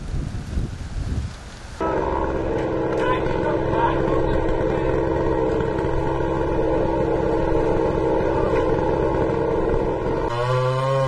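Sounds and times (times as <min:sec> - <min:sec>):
chainsaw engine running: 0:01.8 - 0:11.0.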